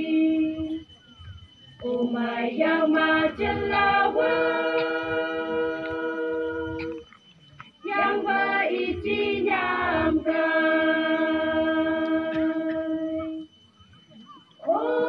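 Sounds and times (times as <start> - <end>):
women singing unaccompanied: 0.0 - 1.0, 1.8 - 7.0, 7.8 - 13.5, 14.6 - 15.0.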